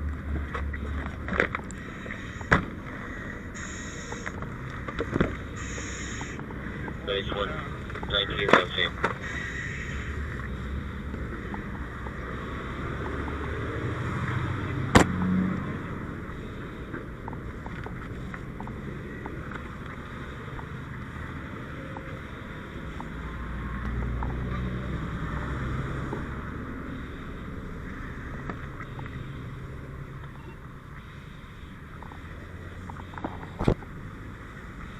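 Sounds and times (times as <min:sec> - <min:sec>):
vehicle engine rumble: 0:00.0 - 0:34.9.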